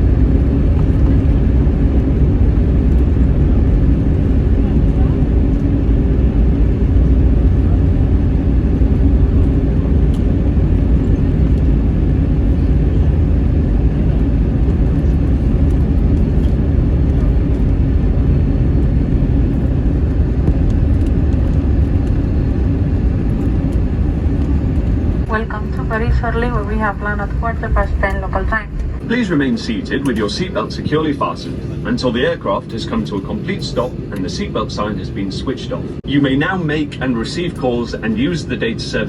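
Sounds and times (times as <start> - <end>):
airliner cabin low rumble: 0.0 - 39.0.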